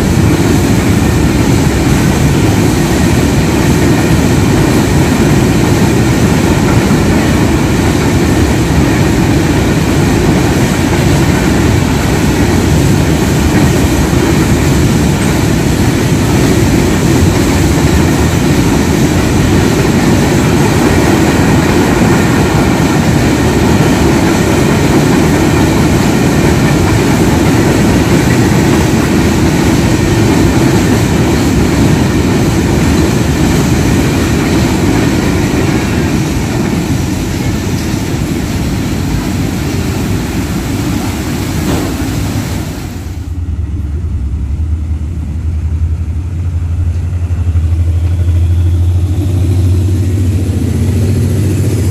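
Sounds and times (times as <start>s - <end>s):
train rumbling on rails: 0.0s - 51.9s.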